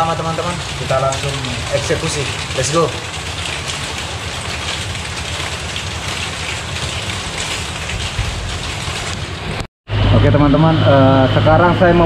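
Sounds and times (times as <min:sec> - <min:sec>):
heavy rain on a roof: 0:00.0 - 0:09.7.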